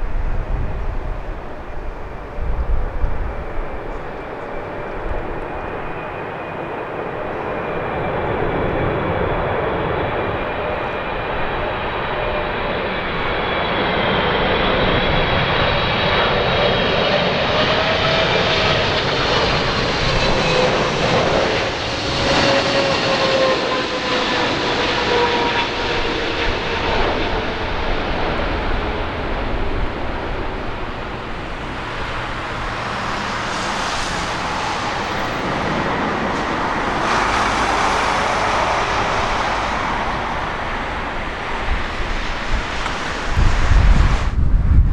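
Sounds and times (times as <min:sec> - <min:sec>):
jet engines roaring overhead: 0:00.0 - 0:44.9.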